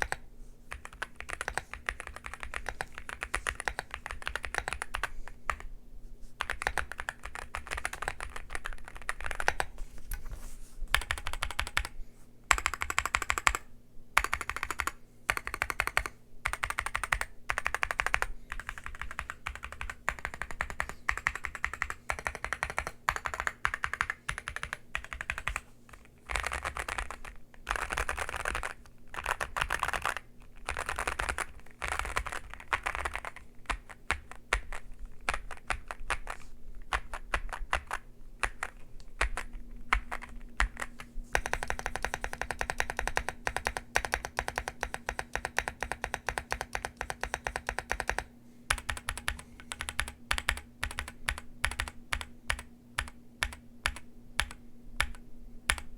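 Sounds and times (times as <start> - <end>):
mechanical keyboard typing: 0.0 - 5.7, 6.4 - 9.8, 10.9 - 55.9.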